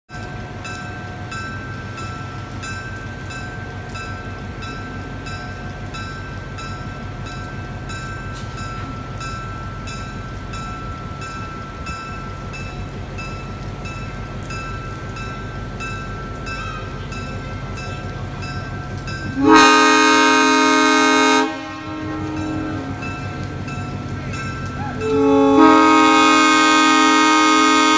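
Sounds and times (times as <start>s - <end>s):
heavy rain hiss: 0.1s - 27.9s
railroad bell ringing: 0.1s - 27.9s
train rumbling: 0.1s - 27.9s.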